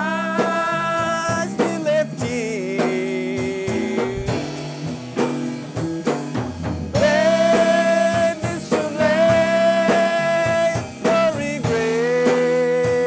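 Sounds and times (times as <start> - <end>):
person singing: 0.0 - 4.8, 7.0 - 13.0
band playing slow blues: 0.0 - 13.0.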